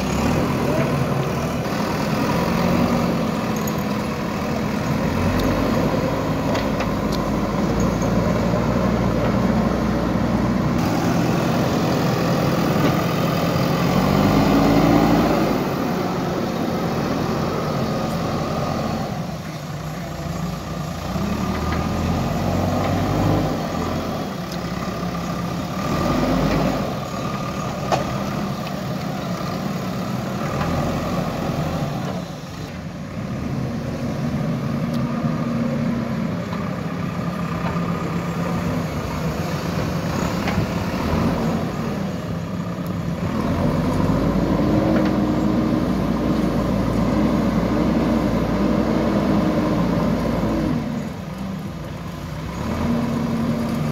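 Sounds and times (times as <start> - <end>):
diesel engine revving under load: 0.0 - 53.9.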